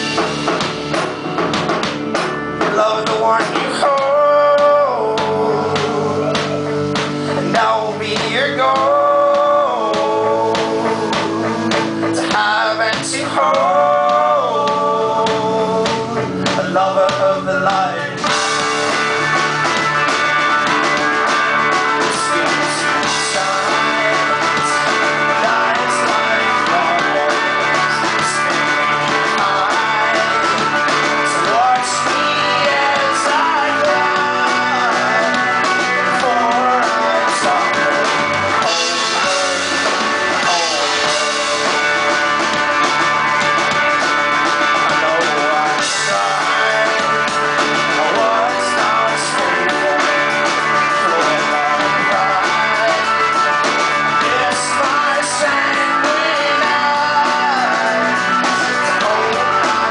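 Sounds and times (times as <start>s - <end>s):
live folk-rock band playing: 0.0s - 59.9s.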